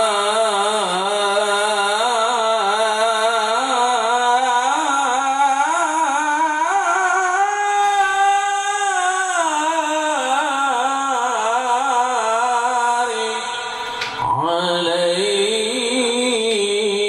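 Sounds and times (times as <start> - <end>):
man reciting melodically through microphone: 0.0 - 17.0.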